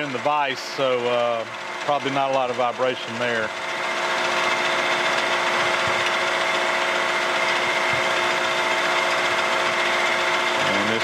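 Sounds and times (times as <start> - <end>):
machine hum: 0.0 - 11.0
milling machine cutting steel: 0.0 - 11.0.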